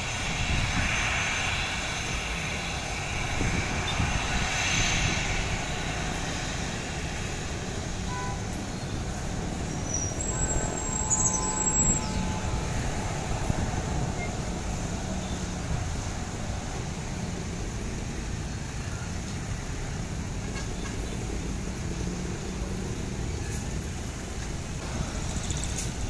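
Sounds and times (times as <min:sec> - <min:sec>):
road traffic engine rumble: 0:00.0 - 0:26.0.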